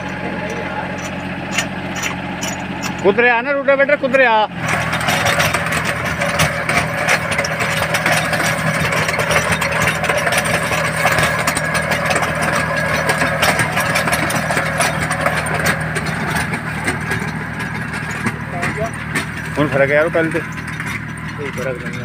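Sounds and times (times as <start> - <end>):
rotavator tilling soil: 0.0 - 22.0
tractor diesel engine running: 0.0 - 22.0.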